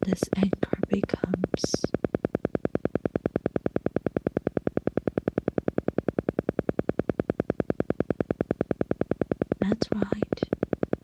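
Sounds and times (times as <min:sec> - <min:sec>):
electronic pulsing: 0:00.0 - 0:11.0.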